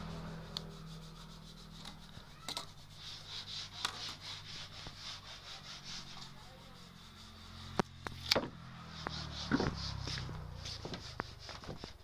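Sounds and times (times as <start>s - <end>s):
scraping rub on wood: 0.0s - 12.0s
steady low hum: 0.0s - 12.0s.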